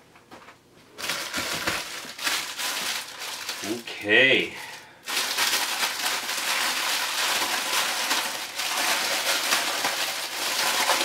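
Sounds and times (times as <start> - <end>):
plastic packaging crinkling: 1.0 - 11.0.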